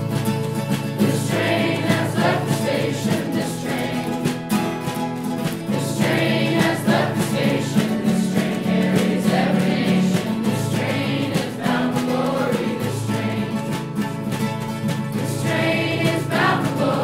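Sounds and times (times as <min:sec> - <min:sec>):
choir singing gospel song: 0:01.0 - 0:04.7, 0:05.6 - 0:14.4, 0:15.0 - 0:17.0.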